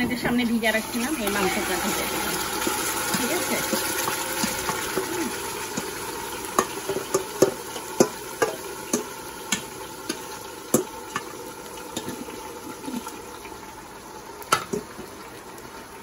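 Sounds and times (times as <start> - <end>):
chicken sizzling in hot oil: 0.3 - 16.0.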